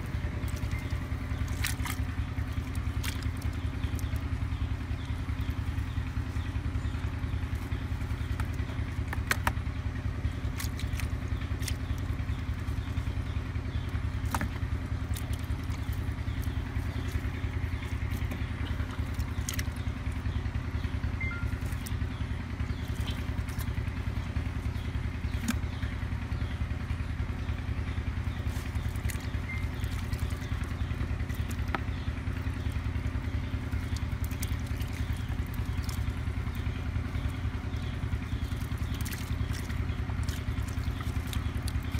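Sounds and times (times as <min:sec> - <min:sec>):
small engine droning: 0:00.0 - 0:41.9.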